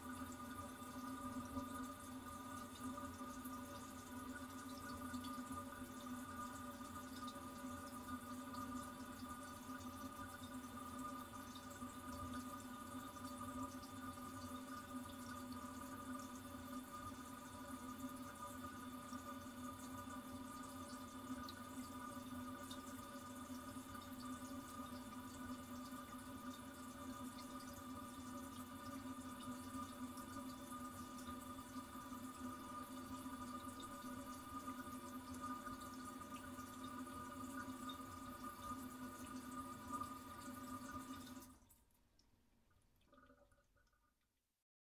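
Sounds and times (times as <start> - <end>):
toilet cistern refilling: 0.0 - 42.0, 42.8 - 44.2.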